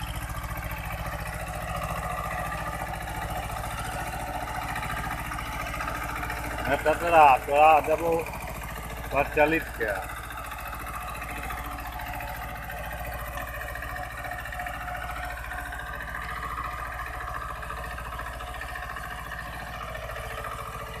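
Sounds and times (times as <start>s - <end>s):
diesel tractor engine under load: 0.0s - 21.0s.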